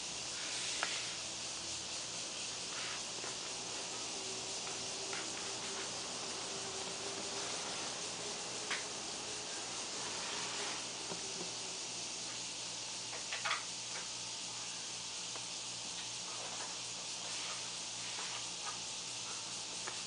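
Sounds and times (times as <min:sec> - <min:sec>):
room and recording hiss: 0:00.0 - 0:20.0.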